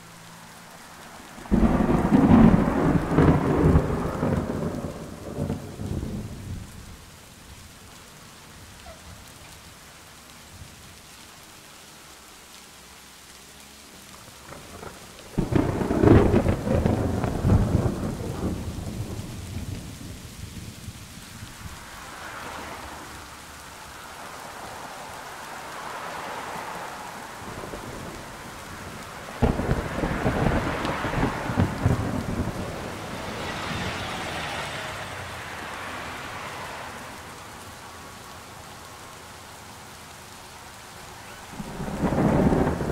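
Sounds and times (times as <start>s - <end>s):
rain on a bus window: 0.0s - 42.9s.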